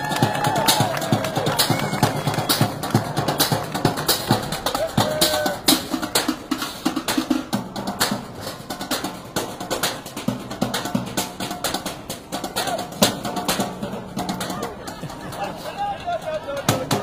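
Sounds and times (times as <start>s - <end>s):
drumming on metal trash cans: 0.2s - 17.0s.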